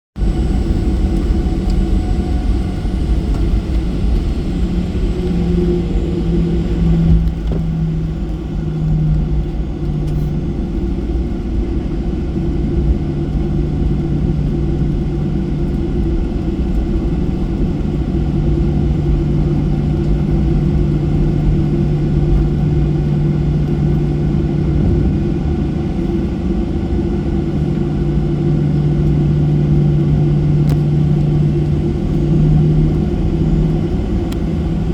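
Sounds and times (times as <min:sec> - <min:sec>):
jet engines rumbling in cabin: 0:00.2 - 0:34.9.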